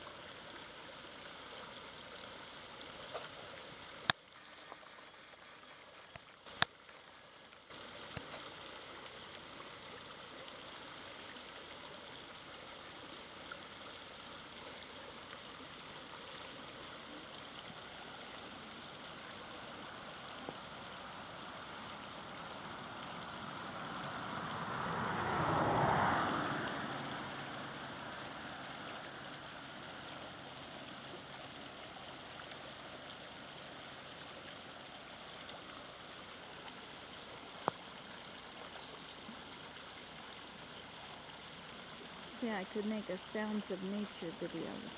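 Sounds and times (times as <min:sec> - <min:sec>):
rocky stream flowing: 0:00.0 - 0:44.9.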